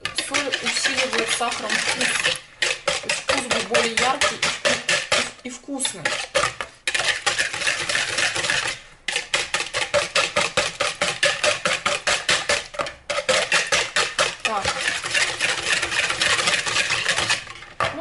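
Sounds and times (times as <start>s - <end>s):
eggs beaten by hand in a bowl: 0.0s - 18.0s.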